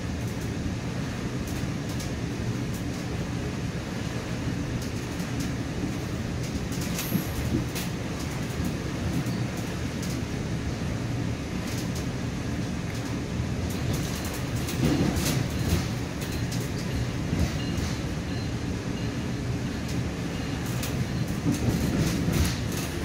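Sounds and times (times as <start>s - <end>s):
train running noise inside coach: 0.0s - 23.0s.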